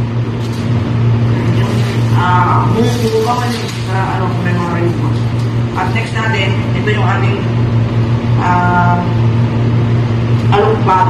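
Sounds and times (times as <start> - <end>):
steady low motor hum: 0.0 - 11.0.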